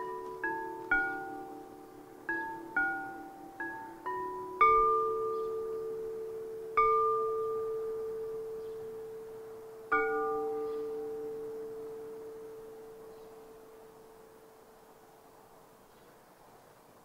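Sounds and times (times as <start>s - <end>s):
porcelain percussion ringing: 0.0s - 14.7s.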